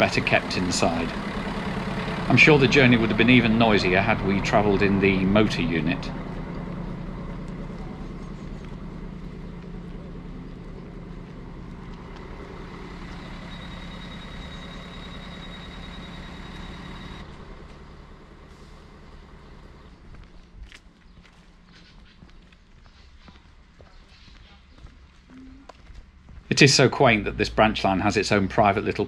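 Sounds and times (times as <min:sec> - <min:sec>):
diesel railcar engine idling: 0:00.0 - 0:29.0
outdoor background: 0:00.0 - 0:29.0.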